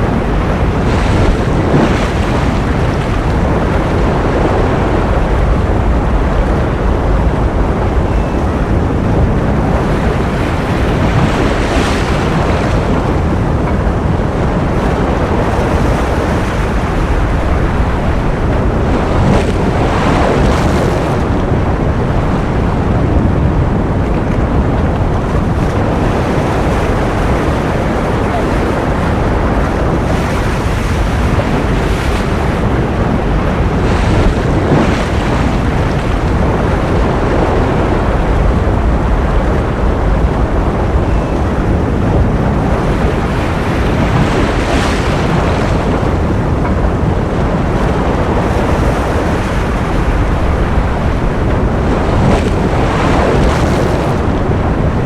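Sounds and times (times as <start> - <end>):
ocean waves rushing: 0.0 - 55.0.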